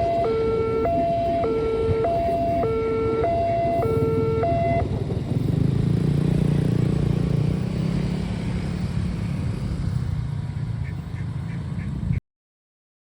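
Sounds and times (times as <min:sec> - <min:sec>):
engines humming: 0:00.0 - 0:12.2.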